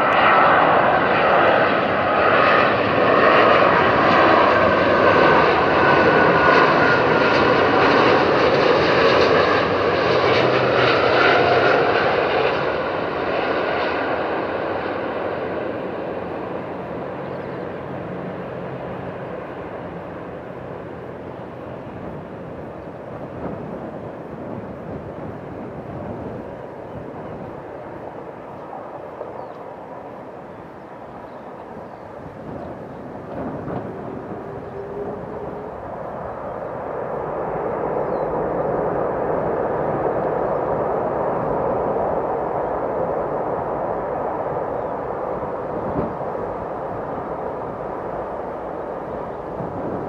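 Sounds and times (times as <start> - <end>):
jet engines rushing and whining: 0.0 - 50.0.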